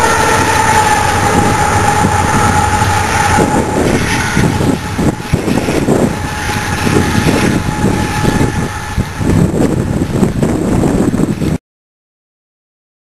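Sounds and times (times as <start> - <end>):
steady high-pitched tone: 0.0 - 11.0
freight train rumbling on rails: 0.0 - 11.6
wind buffeting on microphone: 0.0 - 11.6.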